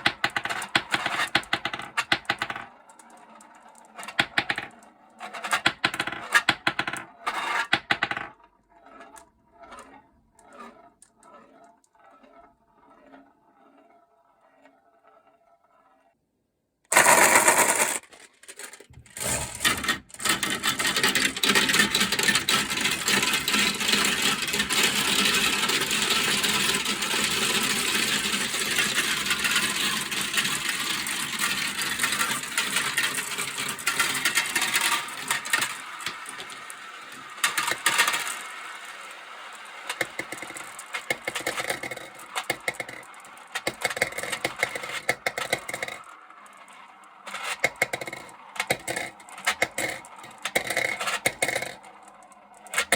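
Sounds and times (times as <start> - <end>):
marbles clattering down plastic track: 0.0 - 11.7, 16.9 - 52.9.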